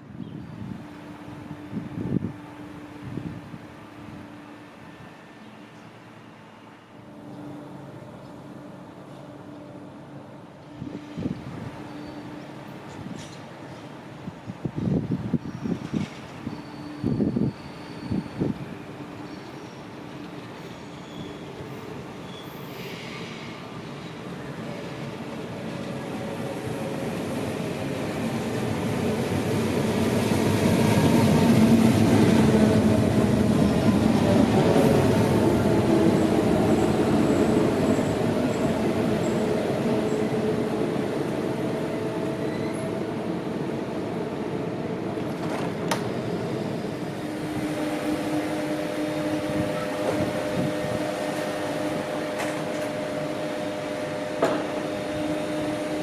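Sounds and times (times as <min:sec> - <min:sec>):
electric train pulling in: 0:00.0 - 0:56.0
train equipment hum: 0:00.0 - 0:56.0.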